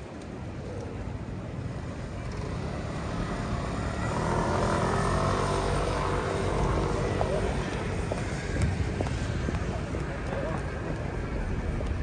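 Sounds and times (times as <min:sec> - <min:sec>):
aircraft engine rumble overhead: 0:00.0 - 0:12.0.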